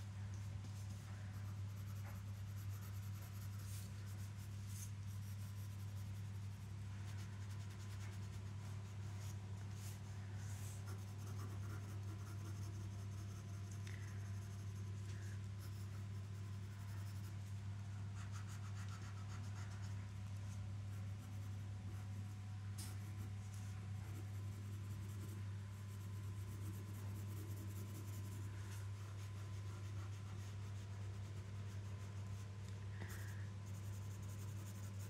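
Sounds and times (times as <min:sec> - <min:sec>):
steady low hum: 0:00.0 - 0:35.0
pencil scratching on paper: 0:00.6 - 0:35.0.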